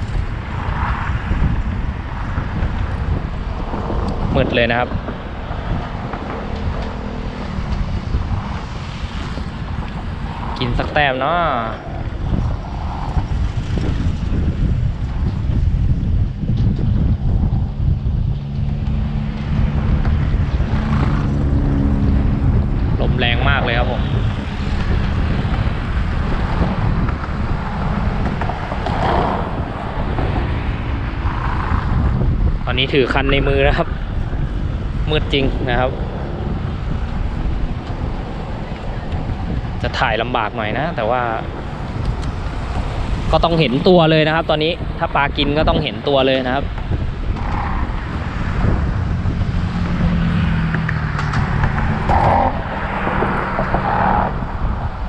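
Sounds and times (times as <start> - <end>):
vehicle engine hum passing: 0.0 - 55.0
wind buffeting microphone: 0.0 - 55.0.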